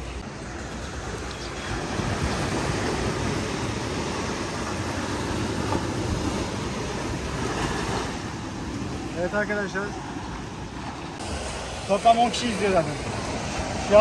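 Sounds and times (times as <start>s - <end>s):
sea surf rushing: 0.0s - 14.0s.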